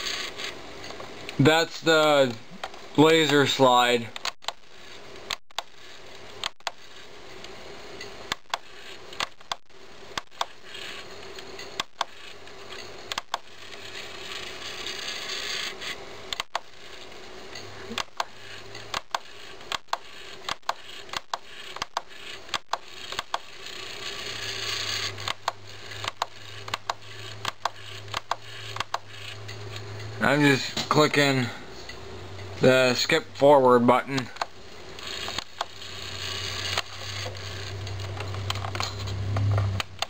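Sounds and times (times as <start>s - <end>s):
disc mechanism whirring hiss: 0.0s - 2.4s, 3.0s - 40.0s.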